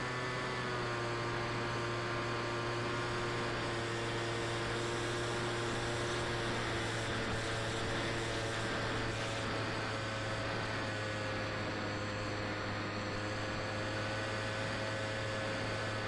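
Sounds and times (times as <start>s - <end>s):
electric motor and propeller humming: 0.0s - 16.0s.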